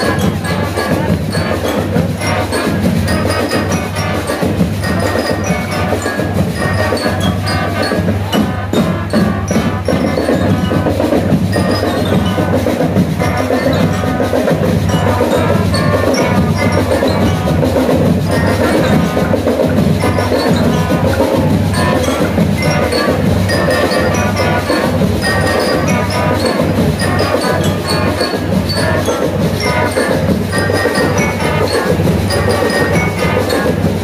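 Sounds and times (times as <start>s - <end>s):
marching drum beat: 0.0s - 34.0s
trumpets and saxophones: 0.0s - 34.0s.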